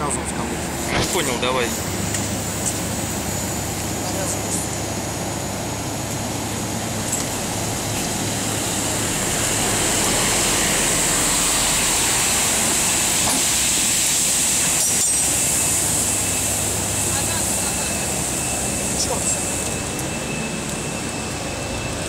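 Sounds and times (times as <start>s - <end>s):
cooling unit hum and hiss: 0.0s - 22.0s.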